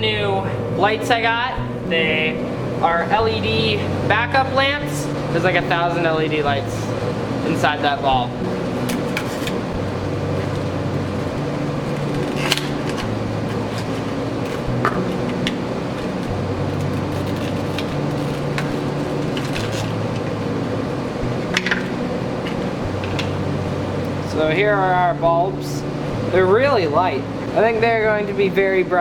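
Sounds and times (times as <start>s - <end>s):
low hum: 0.0s - 28.2s.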